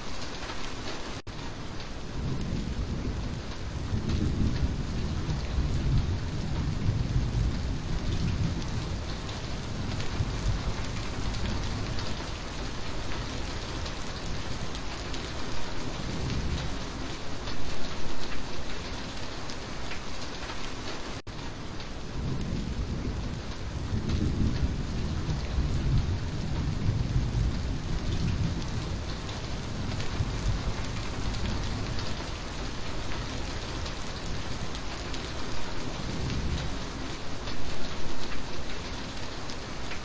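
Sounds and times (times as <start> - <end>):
dense rain falling: 0.0 - 40.0
distant thunder rumble: 2.0 - 17.2, 22.1 - 39.0.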